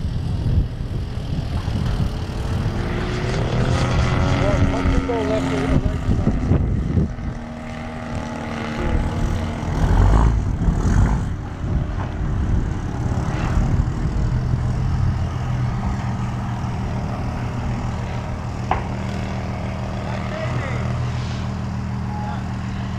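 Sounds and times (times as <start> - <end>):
model plane engine droning: 0.0 - 22.9.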